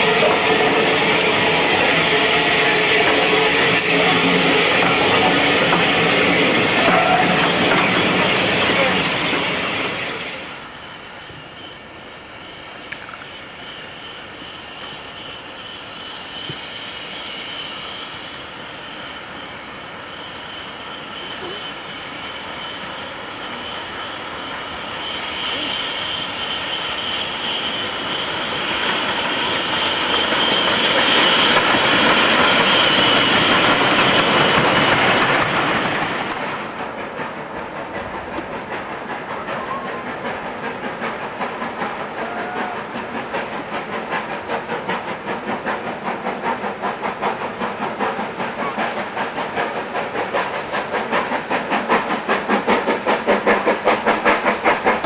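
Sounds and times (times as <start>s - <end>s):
steam locomotive exhaust chuffing: 0.0s - 55.0s
steam locomotive hissing: 0.0s - 55.0s.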